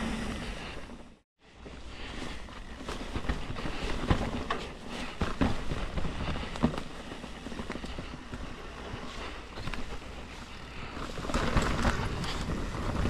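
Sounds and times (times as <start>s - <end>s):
bike rolling on rocky trail: 0.0s - 13.0s
bike knocking over rocks: 2.5s - 13.0s.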